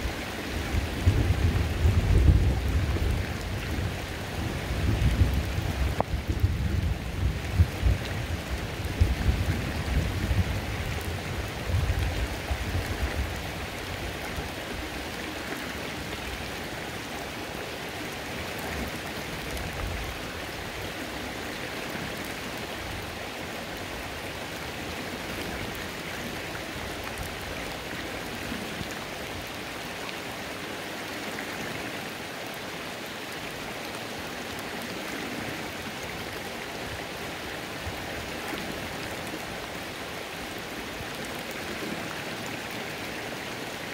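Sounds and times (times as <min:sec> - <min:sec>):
rain hissing: 0:00.0 - 0:43.9
running water: 0:00.0 - 0:43.9.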